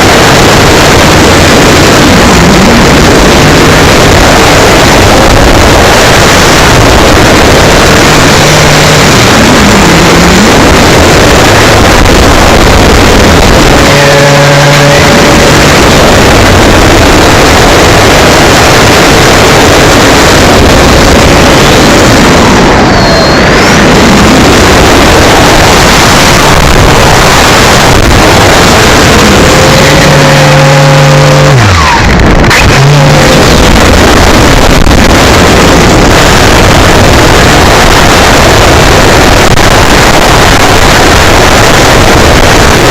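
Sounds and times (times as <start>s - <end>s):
electric motor whine: 0.0s - 42.9s
wind and propeller rush: 0.0s - 42.9s.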